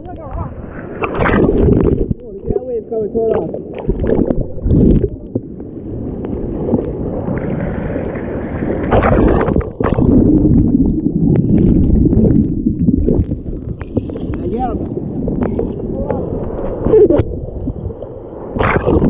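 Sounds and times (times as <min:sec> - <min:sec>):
muffled underwater surf churning: 0:00.0 - 0:19.0.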